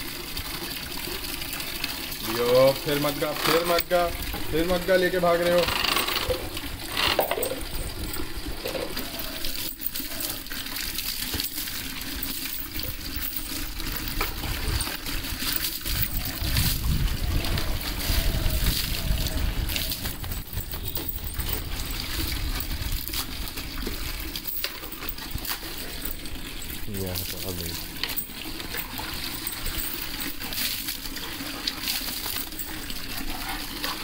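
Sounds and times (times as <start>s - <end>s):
leash chain clinking: 2.2s - 34.0s.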